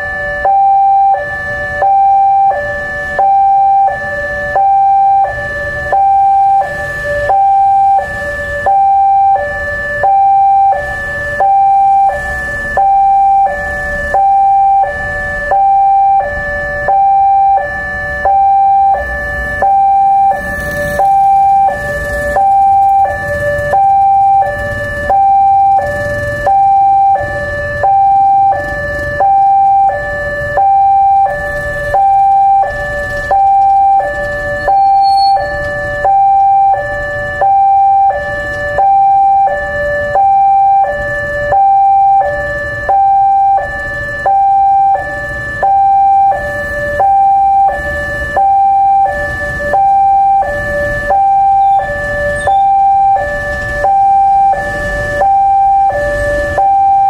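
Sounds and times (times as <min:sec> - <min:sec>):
two-tone level crossing siren: 0:00.0 - 0:57.0.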